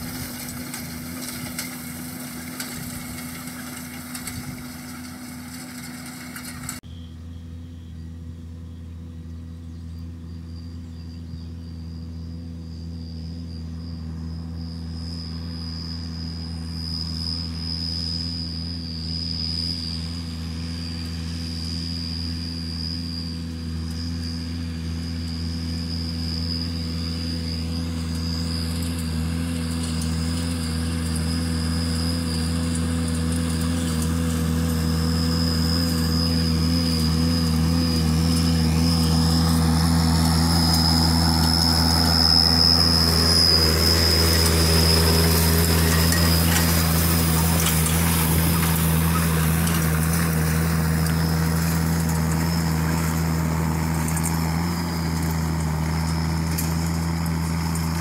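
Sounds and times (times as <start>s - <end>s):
tractor diesel engine running: 0.0s - 58.0s
thin high whine: 9.8s - 58.0s.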